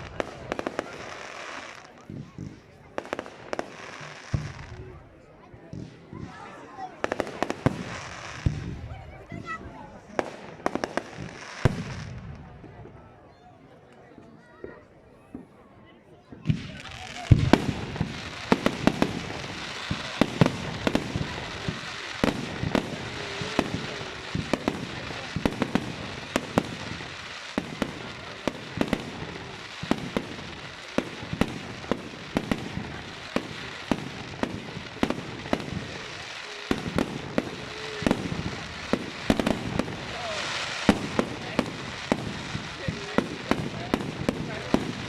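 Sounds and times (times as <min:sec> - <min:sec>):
fireworks banging and cracking: 0:00.0 - 0:13.1, 0:14.6 - 0:15.6, 0:16.2 - 0:45.0.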